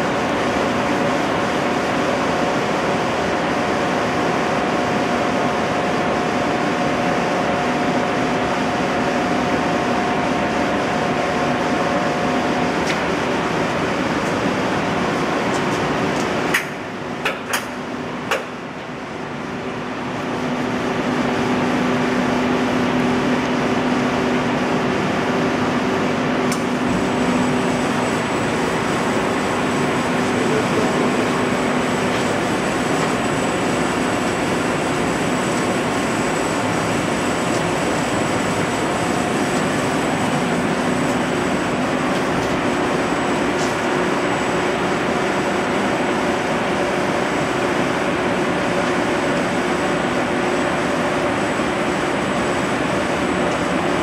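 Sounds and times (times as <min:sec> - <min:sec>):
machining center running: 0:00.0 - 0:54.0.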